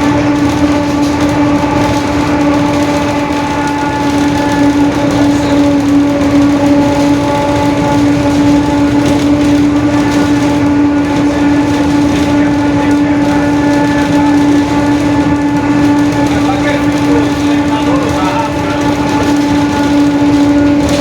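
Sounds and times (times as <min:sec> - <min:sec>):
bus differential whine: 0:00.0 - 0:21.0
bus engine and road noise: 0:00.0 - 0:21.0.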